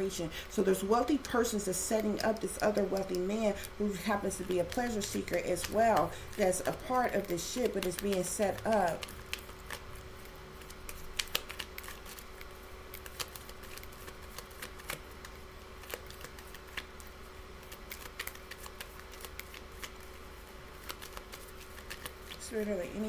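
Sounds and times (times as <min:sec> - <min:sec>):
faint steady hum: 0:00.0 - 0:23.0
cards being shuffled: 0:02.0 - 0:23.0.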